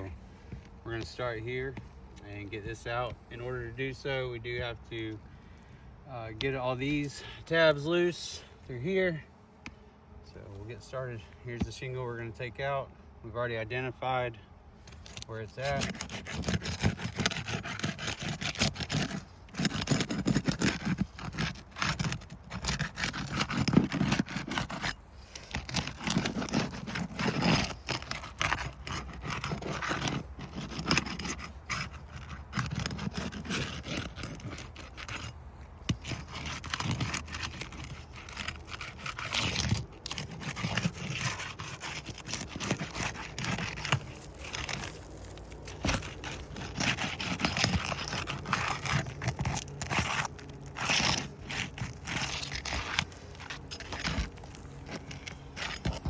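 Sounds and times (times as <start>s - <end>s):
roof shingle scraping and crackling: 0.0s - 9.3s, 13.6s - 56.0s.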